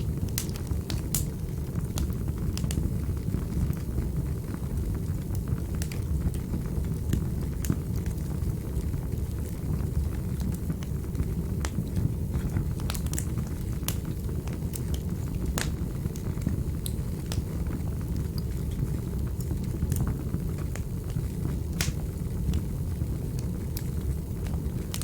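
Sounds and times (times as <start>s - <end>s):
burning logs crackling: 0.0s - 25.0s
fire flames rumbling: 0.0s - 25.0s.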